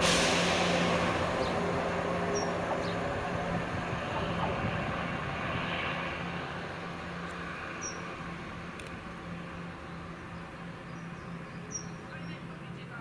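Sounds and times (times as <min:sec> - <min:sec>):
diesel train engine hum: 0:00.0 - 0:13.0
rail noise: 0:00.0 - 0:13.0.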